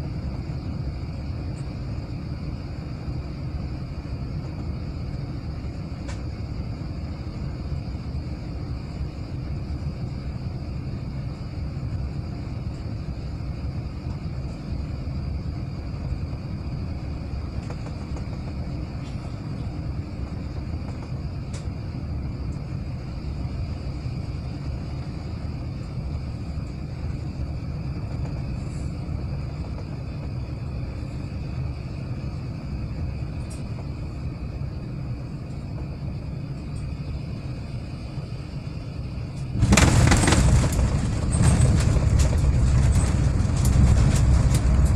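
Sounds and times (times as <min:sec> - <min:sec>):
airliner cabin rumble: 0:00.0 - 0:44.9
faint high hum: 0:00.0 - 0:44.9.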